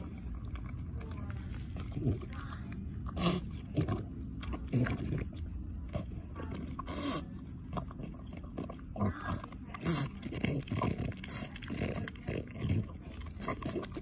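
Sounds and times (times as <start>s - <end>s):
dog crunching cookie: 0.0s - 14.0s.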